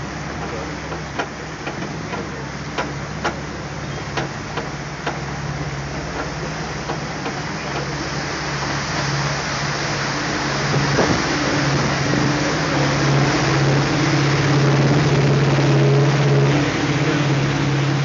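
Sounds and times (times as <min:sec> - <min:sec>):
boat motor humming: 0:00.0 - 0:18.0.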